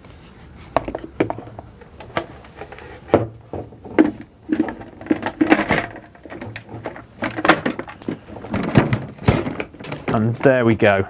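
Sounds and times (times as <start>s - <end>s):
plastic parts clicking and knocking: 0.8s - 10.6s.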